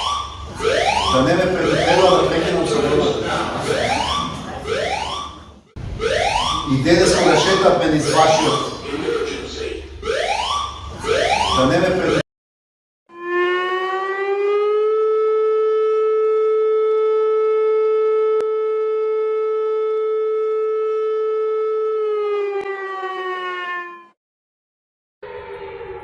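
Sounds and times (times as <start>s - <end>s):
siren wail: 0.0s - 12.2s, 13.1s - 24.2s, 25.2s - 26.0s.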